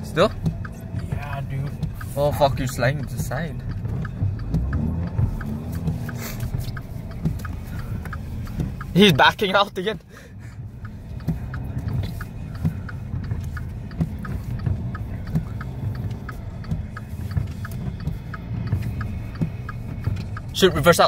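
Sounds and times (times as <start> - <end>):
car engine rumbling: 0.0 - 21.0
light regular ticking: 0.0 - 21.0.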